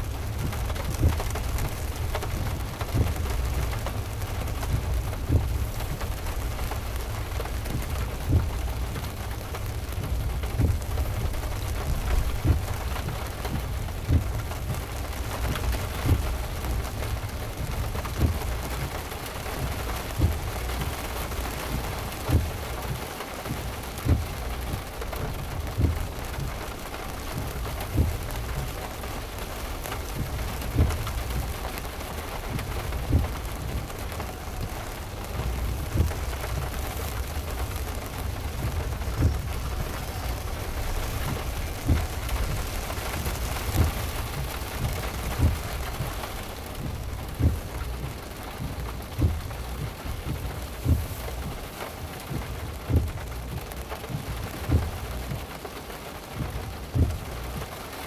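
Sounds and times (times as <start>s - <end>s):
heavy rain on a car: 0.0s - 58.0s.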